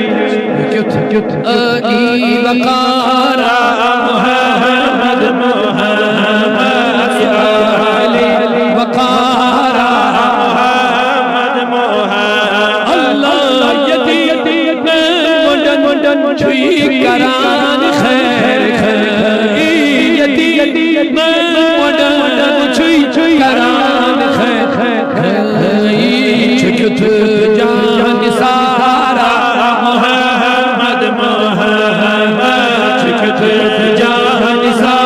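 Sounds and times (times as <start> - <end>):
man chanting: 0.0 - 35.0.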